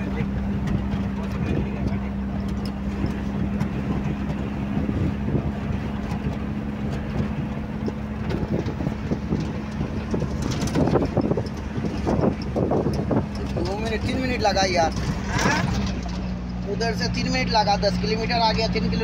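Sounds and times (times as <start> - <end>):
vehicle engine drone: 0.0 - 19.0
light clicks and rattles: 0.1 - 5.1, 5.9 - 17.1.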